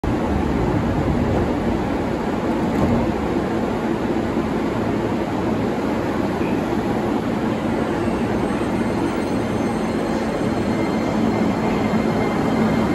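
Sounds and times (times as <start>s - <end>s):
electric train rumbling: 0.0s - 12.9s.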